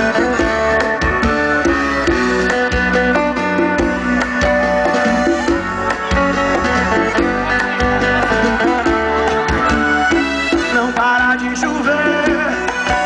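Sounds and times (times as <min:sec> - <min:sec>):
accordion melody: 0:00.0 - 0:13.0
live band playing: 0:00.0 - 0:13.0.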